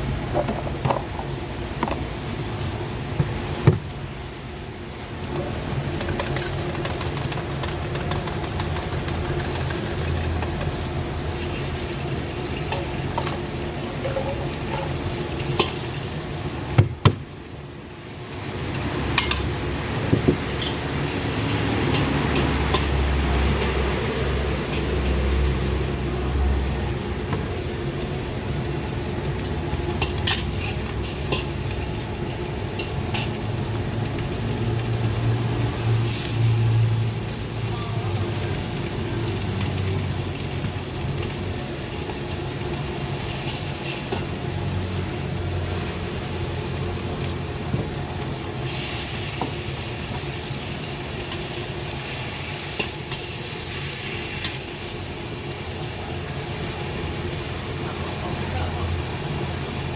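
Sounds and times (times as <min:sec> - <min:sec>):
wok frying sizzle: 0:00.0 - 0:59.9.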